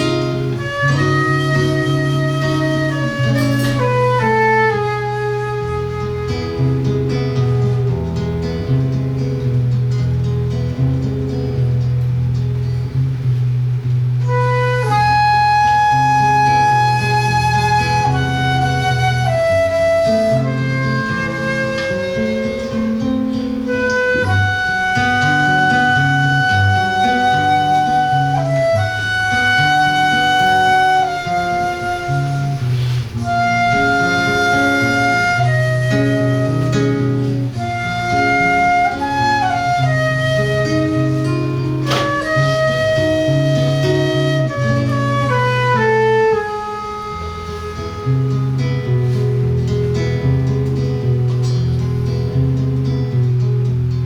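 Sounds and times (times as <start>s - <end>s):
flute melody: 0.0s - 12.0s, 13.9s - 53.9s
guitar bass line and chords: 0.0s - 54.0s.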